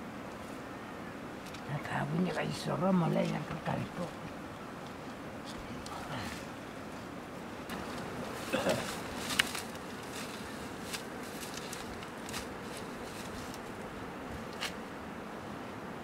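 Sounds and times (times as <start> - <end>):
steady background hiss: 0.0 - 16.0
dry grass and leaves crackling: 1.3 - 15.0.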